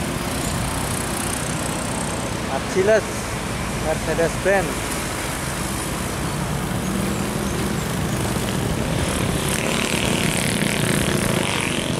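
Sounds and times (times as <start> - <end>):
motorcycle engines: 0.0 - 11.9.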